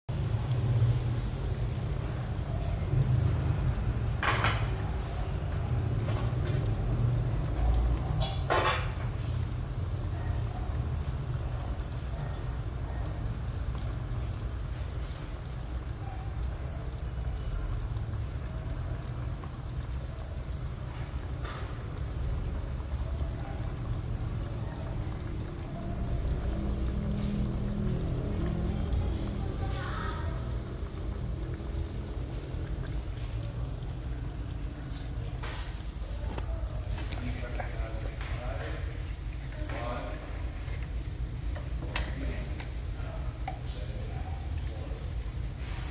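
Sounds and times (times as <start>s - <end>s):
gas stove low rumble: 0.1s - 45.9s
sauce bubbling in a frying pan: 0.1s - 45.9s.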